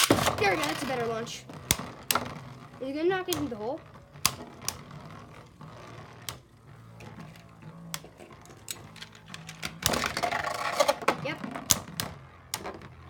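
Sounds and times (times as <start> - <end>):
spinning tops whirring: 0.0 - 13.0.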